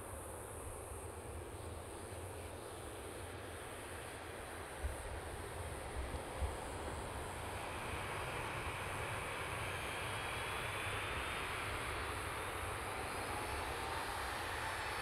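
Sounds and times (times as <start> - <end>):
jet engines at low power: 0.0 - 15.0.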